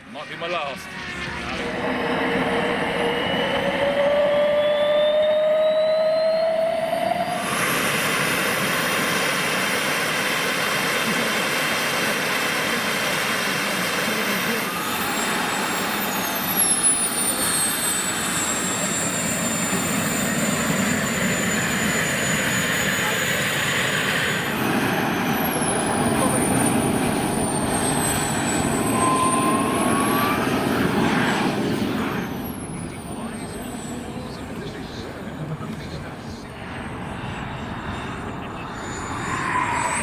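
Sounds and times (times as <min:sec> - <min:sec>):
jet turbine rushing: 0:00.0 - 0:40.0
turbine high whine: 0:00.0 - 0:40.0
turbine starter whine: 0:00.0 - 0:40.0.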